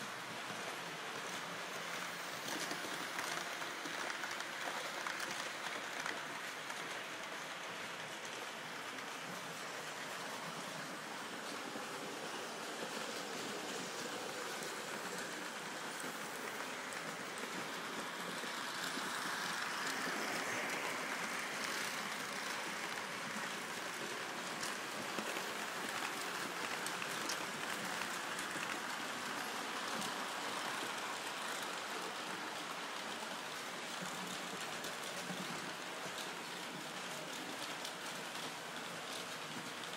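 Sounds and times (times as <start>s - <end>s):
model train wheels rolling on track: 0.0s - 39.9s.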